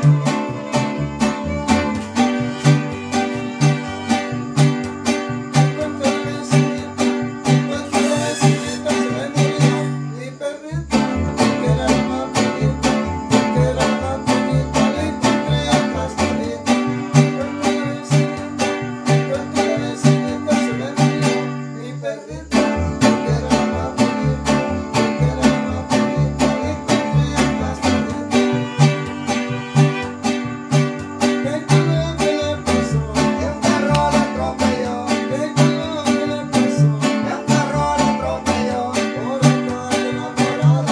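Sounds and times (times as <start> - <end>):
bass line: 0.0 - 10.2, 10.8 - 21.3, 22.4 - 40.9
guitars strummed: 0.0 - 40.9.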